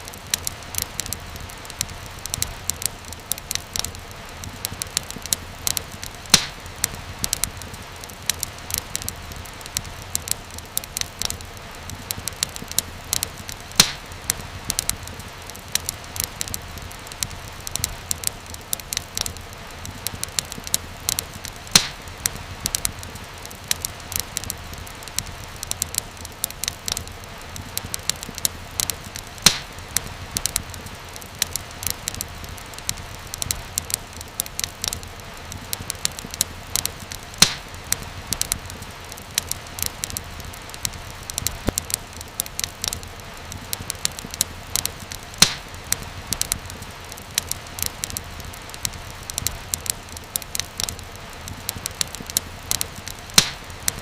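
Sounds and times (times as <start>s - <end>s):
fire crackling with small pops: 0.0s - 54.0s
loud fire snap: 0.0s - 54.0s
low steady hiss: 0.0s - 54.0s.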